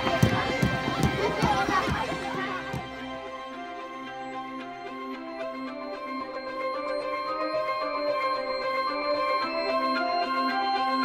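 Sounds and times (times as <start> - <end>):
soundtrack music held notes: 0.0 - 11.0.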